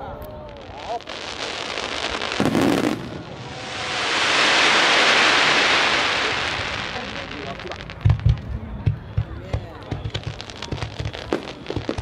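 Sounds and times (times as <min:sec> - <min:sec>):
firework crackling hiss: 0:00.2 - 0:08.5, 0:10.1 - 0:12.0
firework bang: 0:02.3 - 0:12.0.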